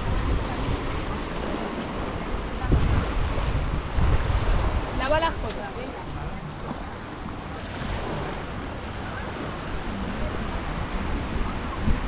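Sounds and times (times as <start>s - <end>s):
faint voices: 0.0s - 12.0s
waves washing onto beach: 0.0s - 12.0s
wind buffeting microphone: 0.0s - 12.0s.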